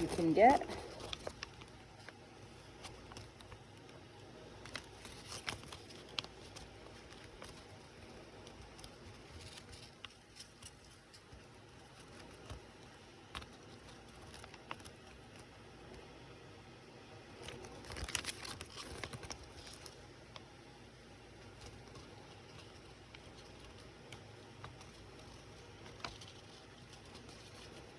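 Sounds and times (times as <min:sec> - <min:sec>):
paper packaging crinkling: 0:00.0 - 0:15.7, 0:17.3 - 0:20.6, 0:21.3 - 0:27.9.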